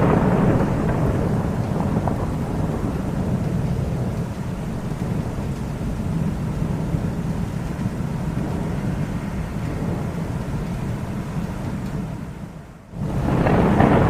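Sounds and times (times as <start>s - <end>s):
rolling thunder: 0.0s - 14.0s.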